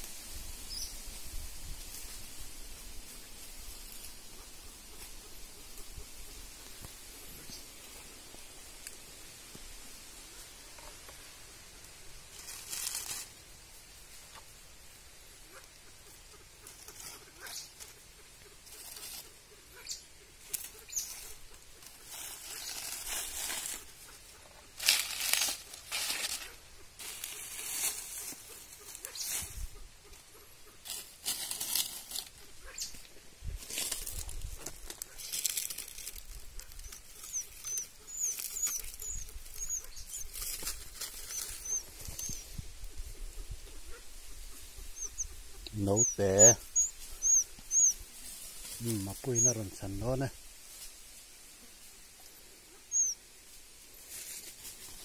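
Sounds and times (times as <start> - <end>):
rustling in dry leaf litter: 0.0 - 55.0
small bird peeping: 0.6 - 1.2, 3.2 - 9.2, 10.2 - 50.2, 51.6 - 55.0.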